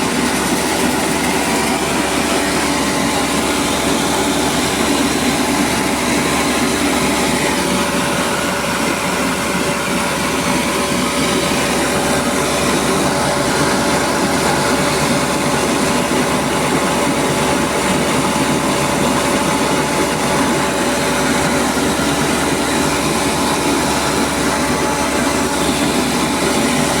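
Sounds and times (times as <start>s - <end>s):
rice milling machine drone: 0.0s - 27.0s.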